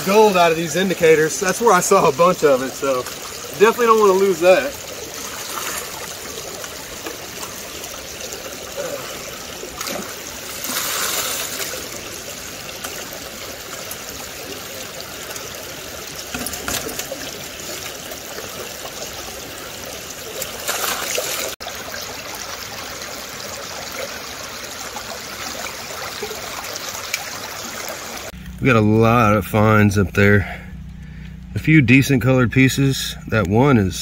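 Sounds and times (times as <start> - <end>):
creek water trickling and splashing: 0.0 - 29.2.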